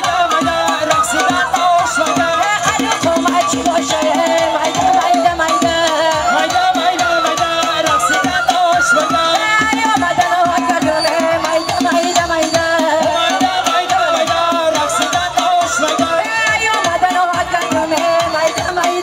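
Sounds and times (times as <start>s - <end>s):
fast hand-drum rhythm: 0.0s - 19.0s.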